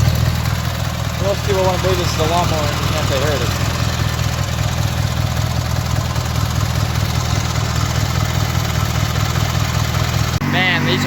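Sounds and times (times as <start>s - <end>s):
lawn tractor engine idling: 0.0s - 11.0s.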